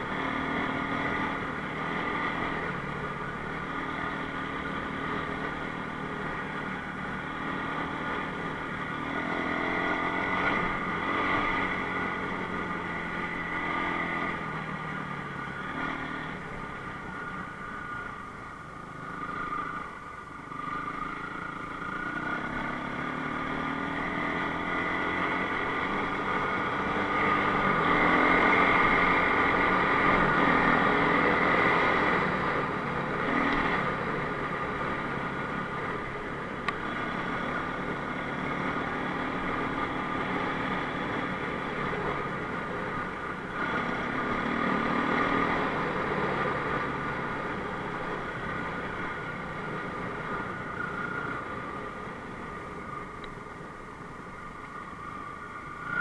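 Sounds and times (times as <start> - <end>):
motorcycle engine revving: 0.0 - 18.0, 19.0 - 53.1.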